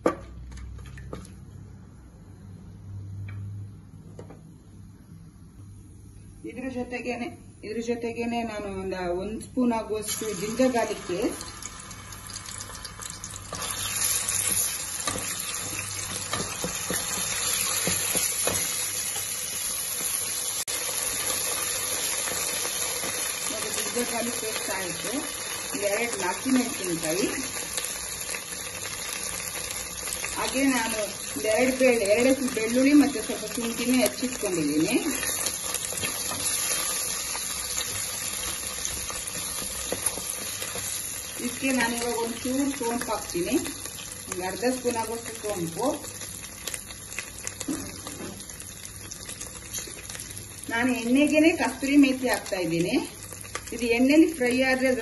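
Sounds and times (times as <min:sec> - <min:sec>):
paste sizzling in hot oil: 0:10.1 - 0:55.0.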